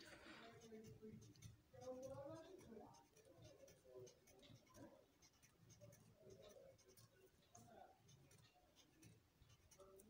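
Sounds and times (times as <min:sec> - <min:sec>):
pencil scratching on paper: 0:00.0 - 0:10.0.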